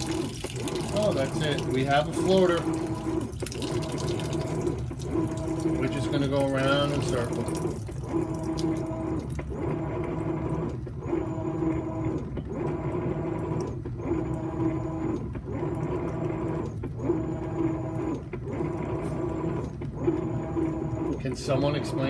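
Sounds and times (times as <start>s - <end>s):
washing machine motor whirring: 0.0s - 22.0s.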